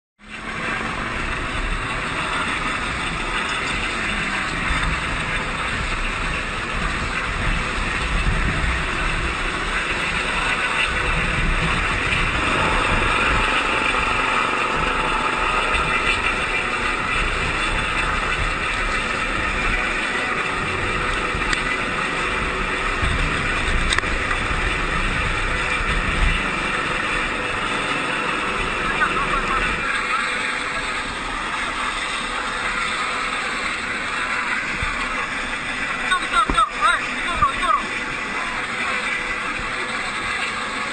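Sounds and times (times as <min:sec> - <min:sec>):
engine running: 0:00.2 - 0:40.9
wind rumbling on microphone: 0:00.2 - 0:40.9.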